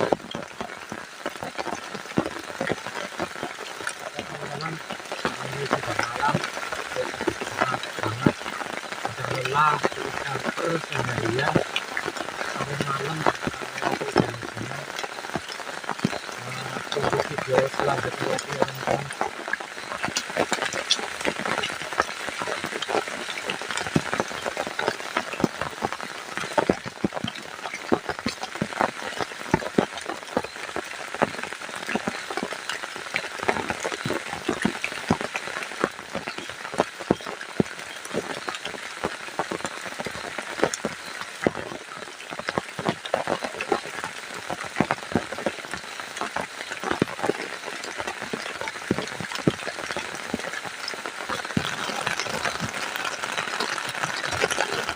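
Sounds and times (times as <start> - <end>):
heavy rain drops pattering: 0.0 - 54.9.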